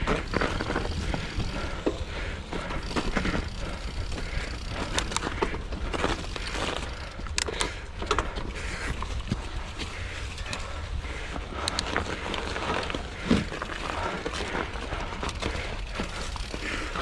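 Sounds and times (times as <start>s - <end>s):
bike clicks and knocks: 0.0s - 17.0s
bike tyre and trail noise: 0.0s - 17.0s.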